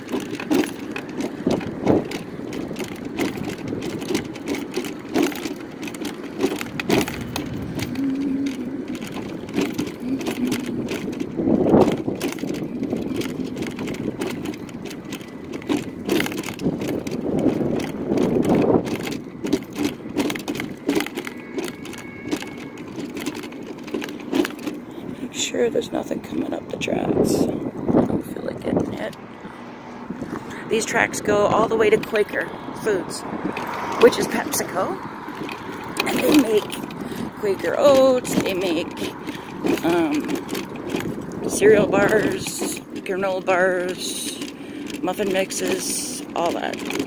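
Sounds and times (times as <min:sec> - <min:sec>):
mobility scooter rattling and clicking: 0:00.0 - 0:47.0
road traffic passing: 0:00.0 - 0:47.0.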